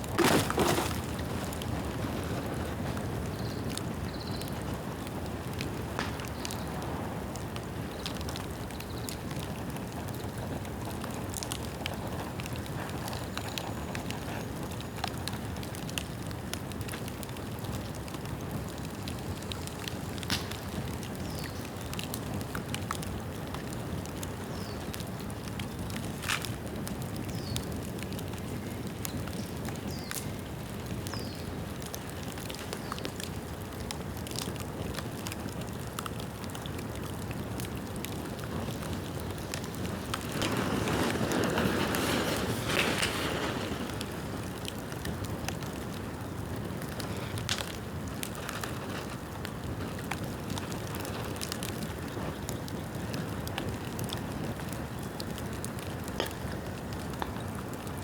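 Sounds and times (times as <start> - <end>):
bonfire crackling and popping: 0.0 - 58.0
fire rushing: 0.0 - 58.0.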